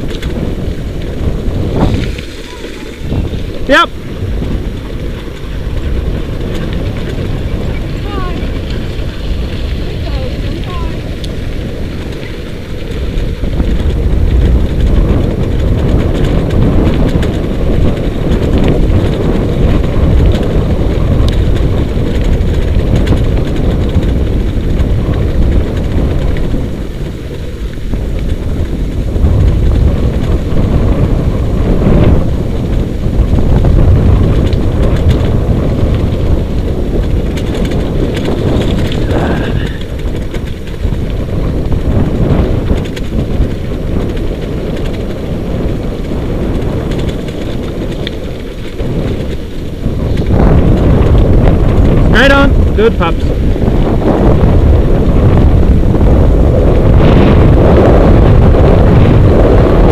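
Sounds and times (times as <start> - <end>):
sled rig rolling over dirt trail: 0.0 - 59.9
wind buffeting microphone: 0.0 - 59.9.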